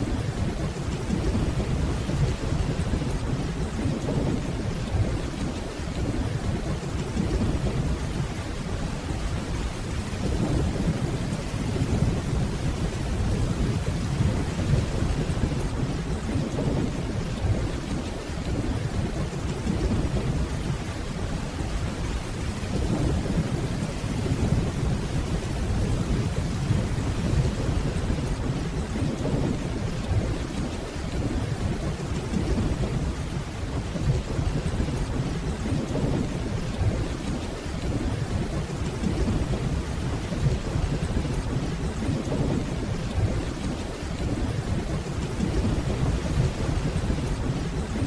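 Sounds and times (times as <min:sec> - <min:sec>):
distant thunder rumbling: 0:00.0 - 0:48.0
steady rainfall: 0:00.0 - 0:48.0.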